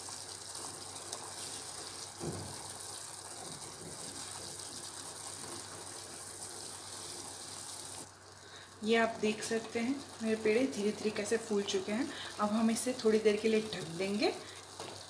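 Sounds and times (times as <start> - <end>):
syrup boiling with bubbling hiss: 0.0 - 15.0.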